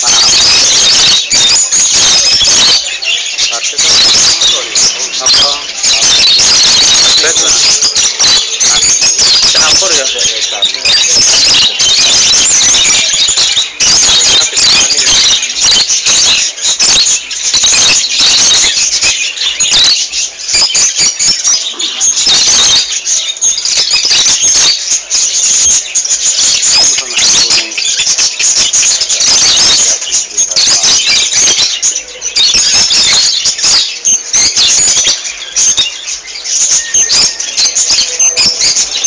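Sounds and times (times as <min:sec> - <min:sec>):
lovebirds chirping and squealing: 0:00.0 - 0:39.0.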